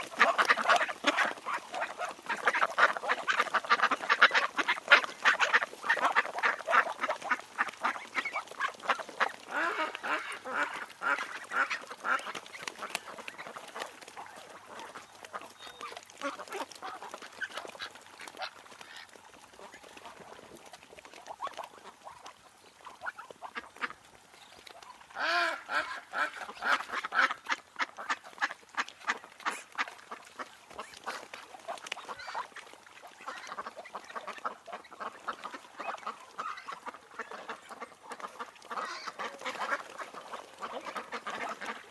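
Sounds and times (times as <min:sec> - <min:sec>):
ducks quacking: 0:00.0 - 0:41.9.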